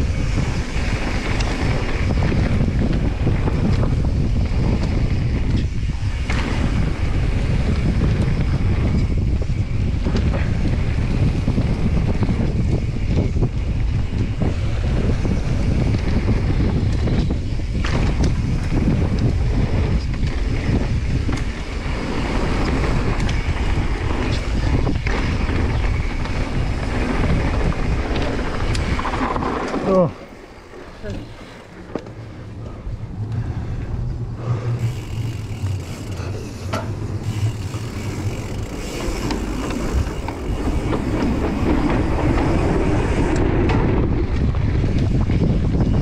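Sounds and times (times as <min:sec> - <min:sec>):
bike knocks and rattles: 0:00.0 - 0:32.8, 0:34.7 - 0:46.0
tyres rumbling on dirt trail: 0:00.0 - 0:46.0
wind buffeting microphone: 0:00.0 - 0:46.0.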